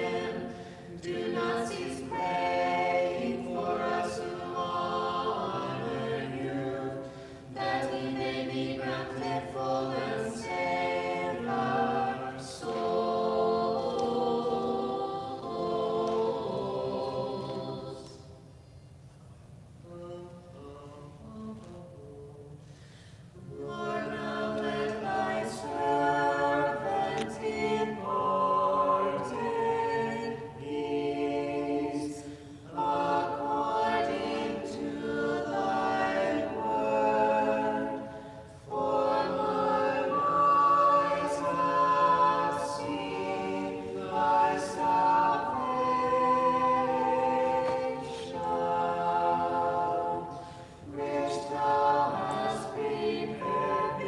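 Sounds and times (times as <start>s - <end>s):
choir singing a cappella: 0.0s - 18.6s, 19.8s - 54.0s.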